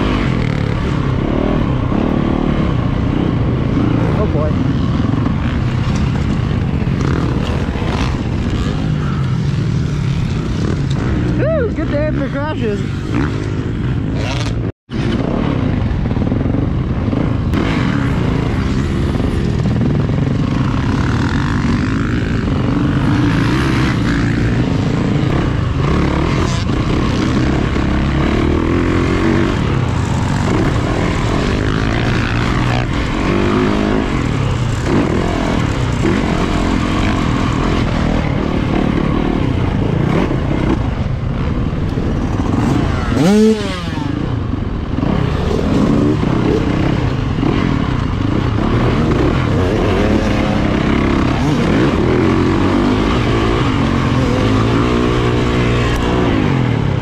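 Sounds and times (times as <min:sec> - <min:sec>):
dirt bike engine revving: 0:00.0 - 0:57.0
heavy rumble: 0:00.0 - 0:57.0.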